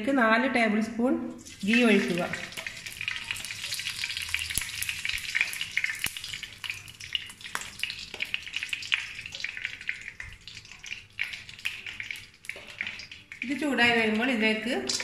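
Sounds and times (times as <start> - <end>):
ghee sizzling in a wok: 1.4 - 15.0.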